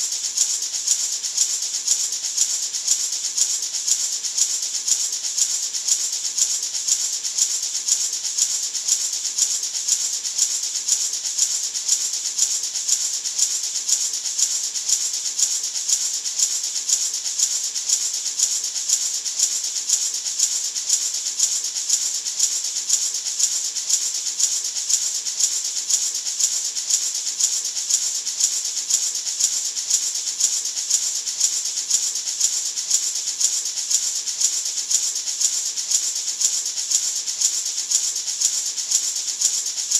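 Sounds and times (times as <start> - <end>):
maraca rattling: 0.0 - 39.9.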